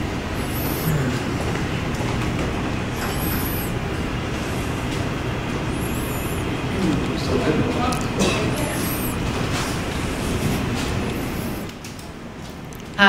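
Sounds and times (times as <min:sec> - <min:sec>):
function room background rumble: 0:00.0 - 0:13.0.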